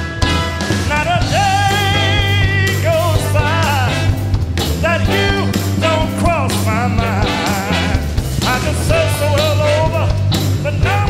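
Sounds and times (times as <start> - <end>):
soul band playing: 0.0 - 11.0
man singing: 0.6 - 11.0.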